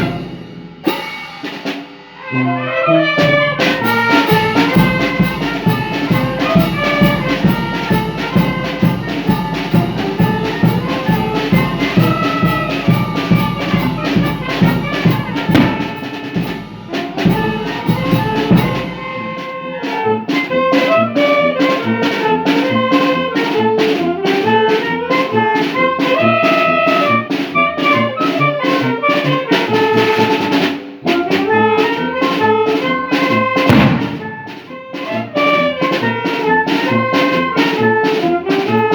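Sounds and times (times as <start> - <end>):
brass band playing: 0.0 - 38.9.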